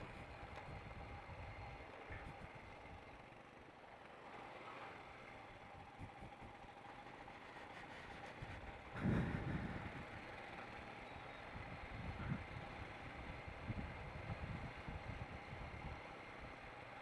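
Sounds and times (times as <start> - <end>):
motorcycle running: 0.0 - 17.0.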